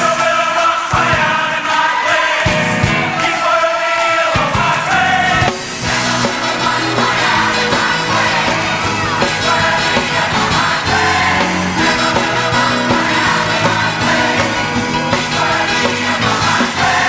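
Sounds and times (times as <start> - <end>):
band playing gospel music: 0.0 - 17.0
voices singing: 0.0 - 17.0.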